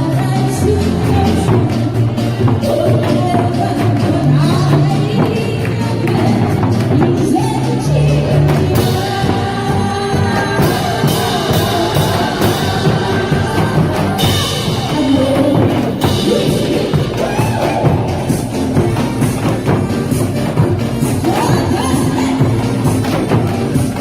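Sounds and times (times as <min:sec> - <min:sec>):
amplified backing music with drums: 0:00.0 - 0:24.0
person singing: 0:00.0 - 0:24.0.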